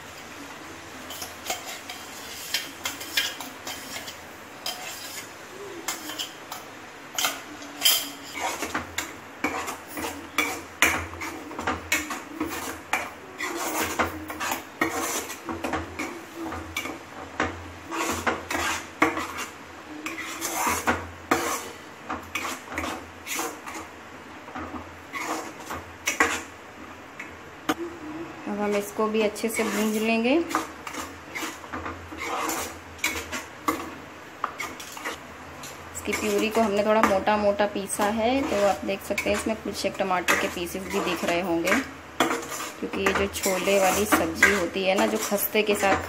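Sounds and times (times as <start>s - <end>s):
faint sizzle: 0.0s - 46.0s
spoon scraping metal pan: 1.0s - 23.9s, 24.6s - 26.5s, 28.5s - 46.0s.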